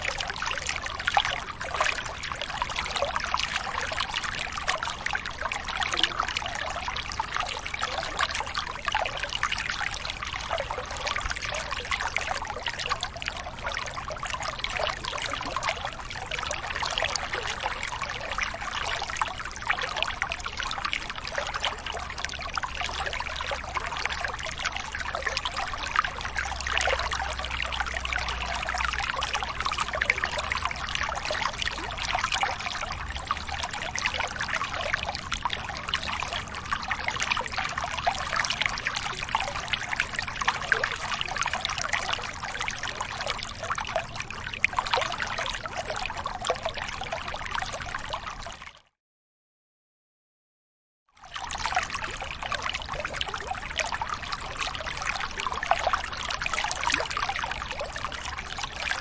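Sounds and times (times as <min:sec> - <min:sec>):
water trickling and splashing: 0:00.0 - 0:48.9, 0:51.2 - 0:59.0.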